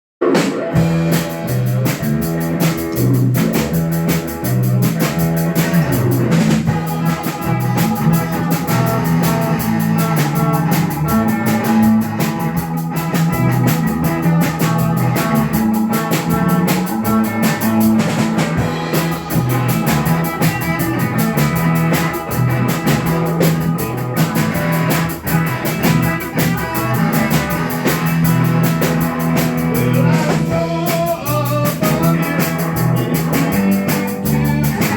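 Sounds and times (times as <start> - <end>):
drum kit beat: 0.2 - 34.9
electric guitar riff: 0.2 - 34.9
rock band playing: 0.2 - 34.9
repeating bass line: 0.7 - 34.9.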